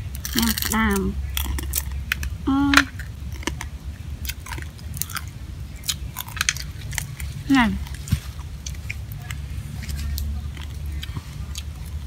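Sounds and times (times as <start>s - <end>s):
chewing: 0.0s - 12.0s
crab shells cracking: 0.0s - 12.0s.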